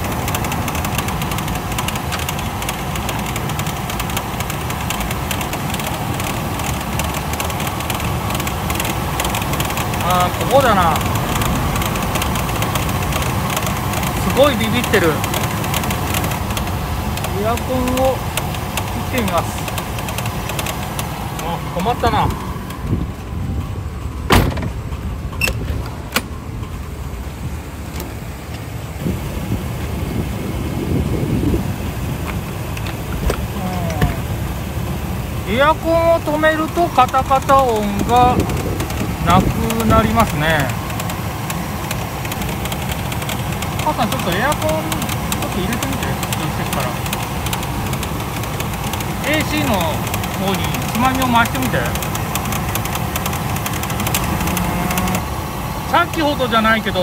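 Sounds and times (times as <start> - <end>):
handling knocks and clicks: 0.0 - 23.3, 24.2 - 26.9, 27.7 - 28.8, 32.2 - 34.4, 35.6 - 55.2
fast rattle: 0.0 - 29.3, 30.0 - 57.0
engine idling: 0.0 - 57.0.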